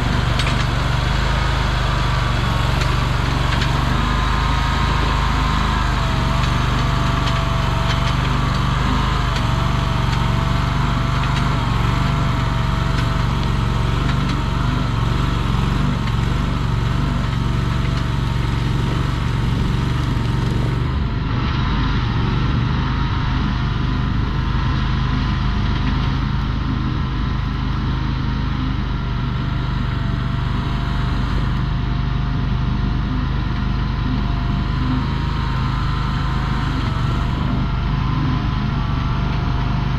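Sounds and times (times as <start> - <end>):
skid steer engine humming and whining: 0.0 - 39.9.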